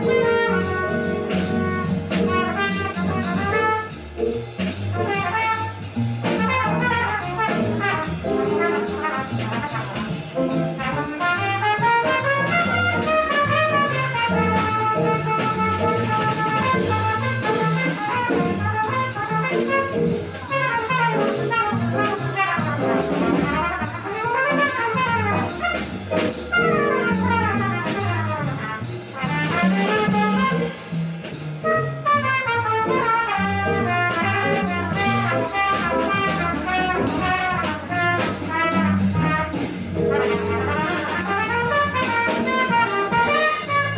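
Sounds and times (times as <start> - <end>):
trumpet soloing: 0.0 - 4.0, 4.9 - 30.9, 31.6 - 43.9
drum kit: 0.0 - 43.9
upright bass: 0.0 - 43.9.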